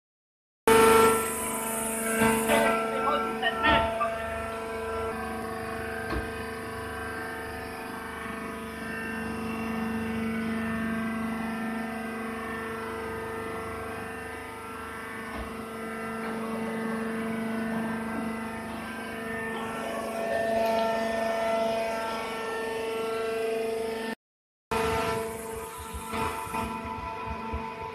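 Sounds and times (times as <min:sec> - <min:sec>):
motor and hydraulic pump humming: 0:00.7 - 0:27.9.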